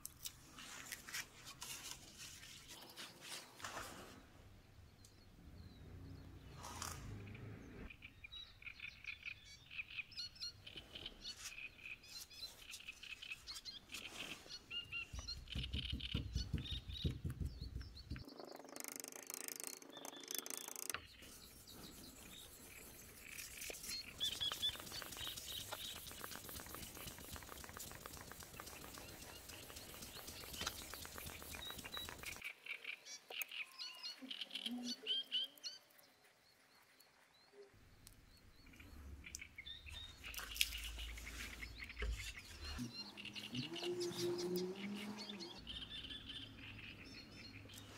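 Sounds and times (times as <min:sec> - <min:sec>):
small birds chirping: 0:04.7 - 0:47.9.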